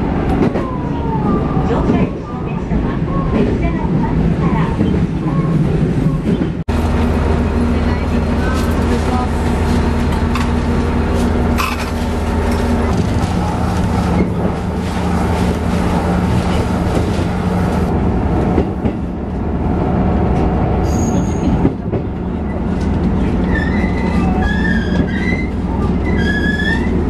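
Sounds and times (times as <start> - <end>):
railcar engine and track drone: 0.0 - 27.0.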